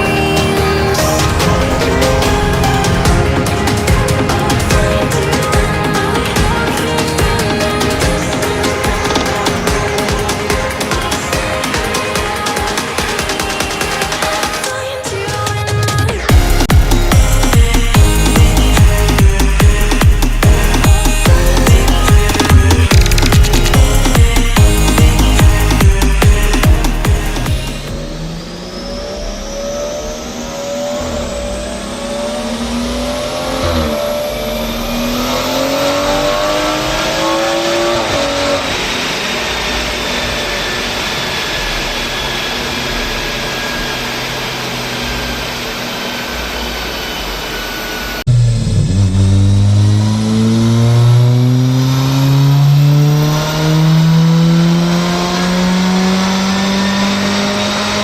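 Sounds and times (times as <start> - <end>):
car engines revving: 0.0 - 14.6, 16.1 - 58.0
rushing noise: 0.0 - 58.0.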